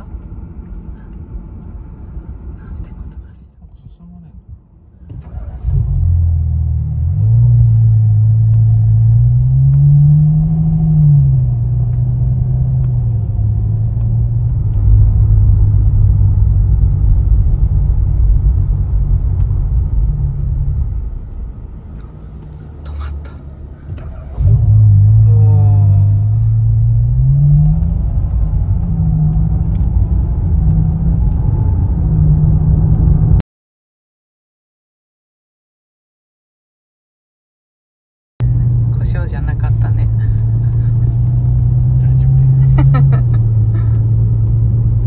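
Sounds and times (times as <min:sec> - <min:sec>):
car engine starting and idling: 0:00.0 - 0:33.4, 0:38.4 - 0:45.0.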